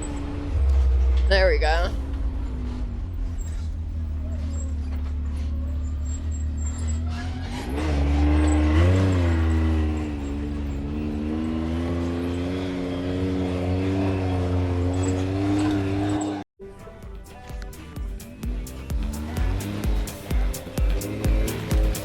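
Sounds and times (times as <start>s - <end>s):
off-road vehicle engine: 0.0s - 16.5s, 17.3s - 22.0s.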